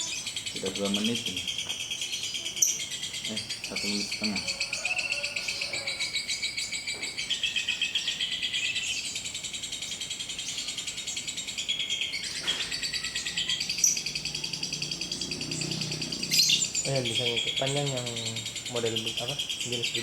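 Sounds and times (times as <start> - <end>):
bird chattering trills: 0.0 - 20.0.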